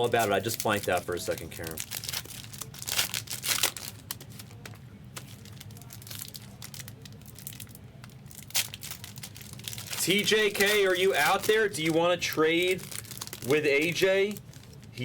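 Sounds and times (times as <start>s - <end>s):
wrappers tearing and crinkling: 0.0s - 15.0s.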